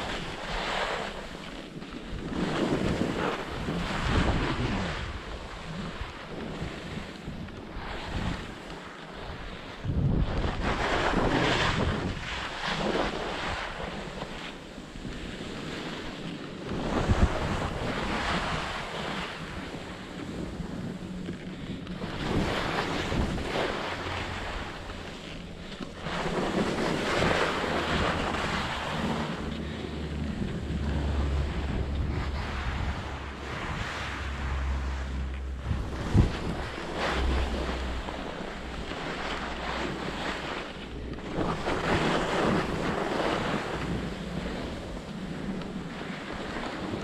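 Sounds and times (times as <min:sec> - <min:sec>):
skis scraping over snow: 0:00.0 - 0:47.0
wind buffeting microphone: 0:00.0 - 0:47.0.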